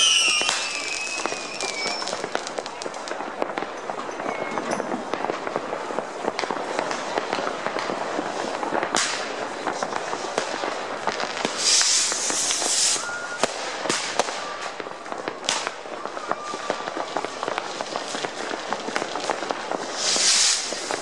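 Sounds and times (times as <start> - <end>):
firework hiss: 0.0 - 3.6, 4.4 - 21.0
fireworks crackling and banging: 0.0 - 21.0.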